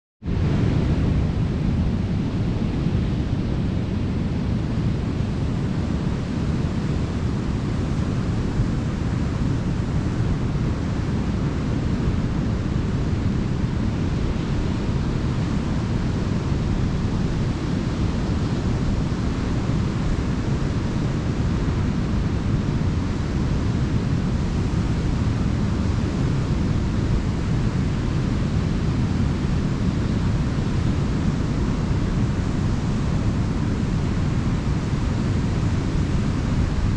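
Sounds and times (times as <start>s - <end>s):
ocean waves washing onto beach: 0.4s - 36.9s.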